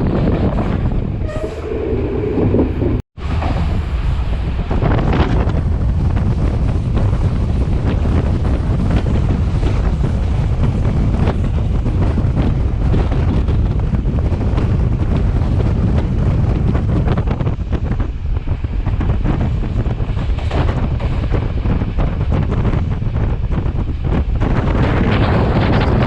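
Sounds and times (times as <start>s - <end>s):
train rumble: 0.0s - 26.0s
wind buffeting microphone: 0.0s - 26.0s.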